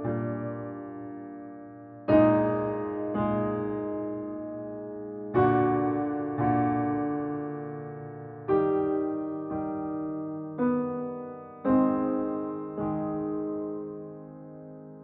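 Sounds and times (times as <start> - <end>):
slow soft piano chords: 0.0 - 15.0.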